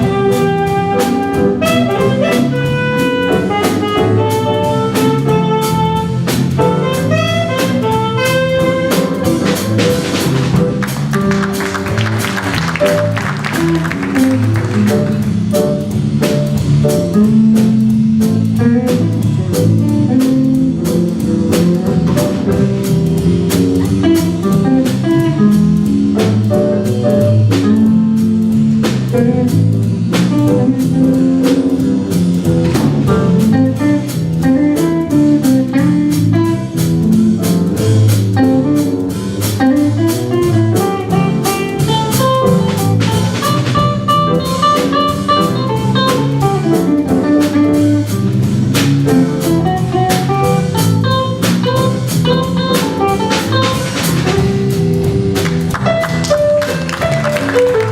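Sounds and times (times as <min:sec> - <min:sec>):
drum hits: 0:00.0 - 0:57.9
jazz ensemble playing swing: 0:00.0 - 0:57.9.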